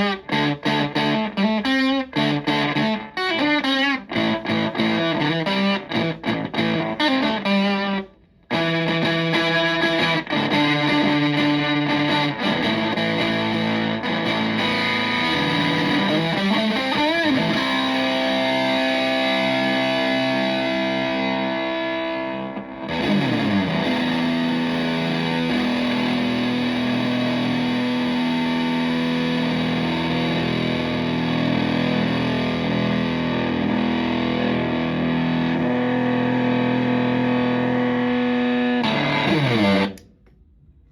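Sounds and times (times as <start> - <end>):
fuzz-distorted electric guitar: 0.0 - 40.1.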